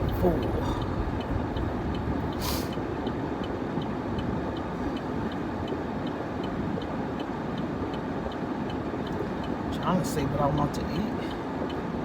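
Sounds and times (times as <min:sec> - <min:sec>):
road noise inside truck cab: 0:00.0 - 0:12.0
turn signal ticking: 0:00.0 - 0:12.0.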